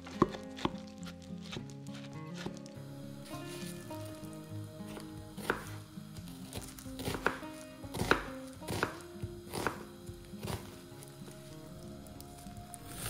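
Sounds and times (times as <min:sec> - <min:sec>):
knife cutting onion on board: 0:00.0 - 0:04.3, 0:04.9 - 0:11.8.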